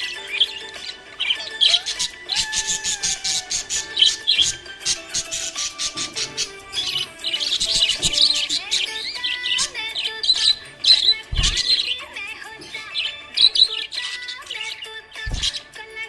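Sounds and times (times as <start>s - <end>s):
budgerigars chirping: 0.0s - 15.9s.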